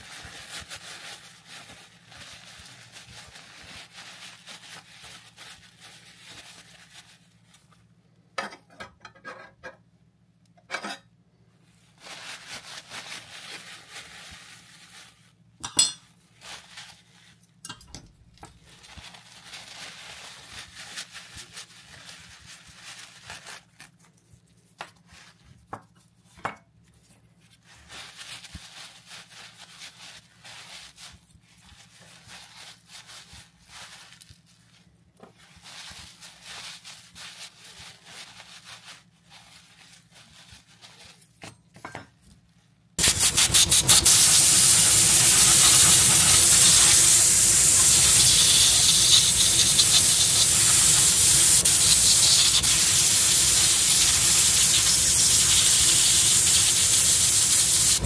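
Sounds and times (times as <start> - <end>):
paper towel rustling: 0.0 - 7.9, 11.7 - 15.4, 16.3 - 17.4, 18.4 - 25.7, 26.8 - 41.4, 43.0 - 58.0.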